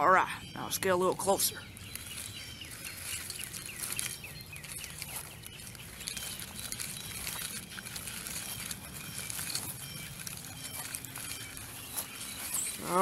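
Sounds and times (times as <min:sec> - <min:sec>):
small birds chirping: 0:00.0 - 0:13.0
grass rustling: 0:00.7 - 0:13.0.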